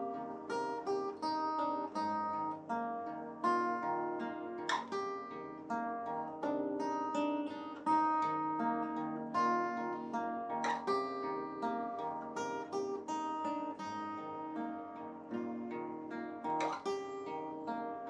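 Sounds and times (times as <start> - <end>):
acoustic guitar picking: 0.0 - 18.0.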